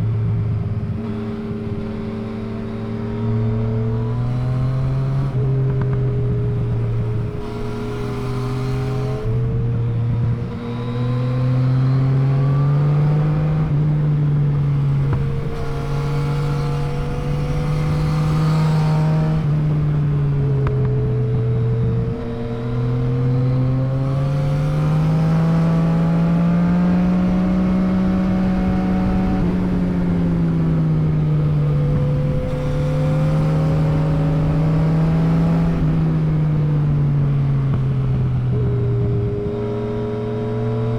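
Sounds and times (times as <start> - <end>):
wind noise: 0.0 - 40.9
motorcycle engine revving: 0.4 - 40.9.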